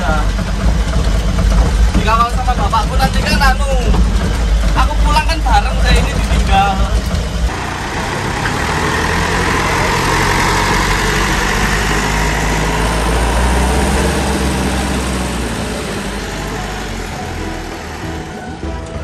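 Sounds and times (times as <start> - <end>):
diesel truck engine passing: 0.0 - 19.0.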